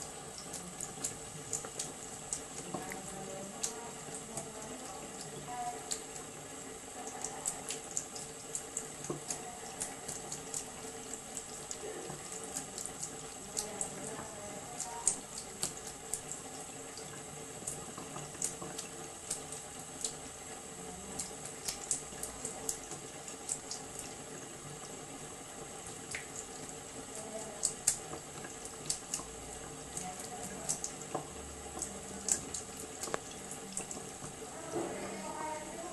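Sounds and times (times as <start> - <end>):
cat lapping water: 0.0 - 35.9
tap water trickling: 0.0 - 35.9.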